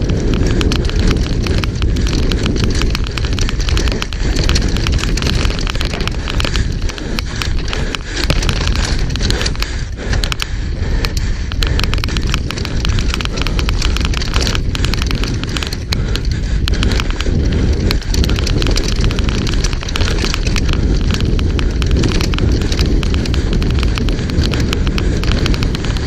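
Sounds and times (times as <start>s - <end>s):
tyres rumbling on dirt: 0.0s - 9.6s, 11.5s - 26.0s
bike clicking and clattering: 0.0s - 26.0s.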